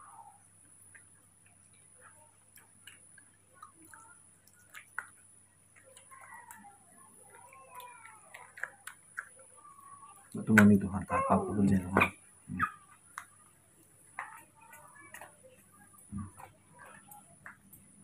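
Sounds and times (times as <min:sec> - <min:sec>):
lip smacks: 0:00.7 - 0:18.0.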